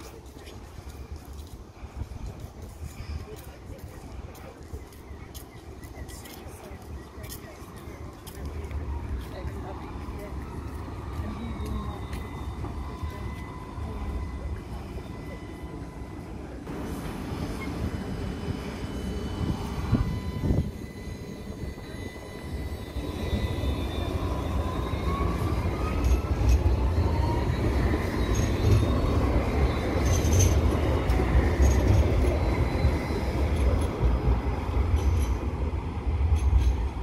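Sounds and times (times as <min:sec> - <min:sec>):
tram wheels rumbling on rails: 0:00.0 - 0:37.0.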